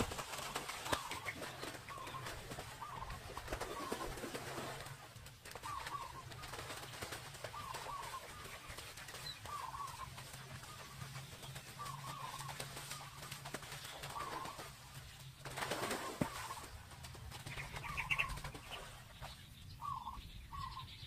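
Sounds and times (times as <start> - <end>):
birds warbling calls: 0.0 - 21.0.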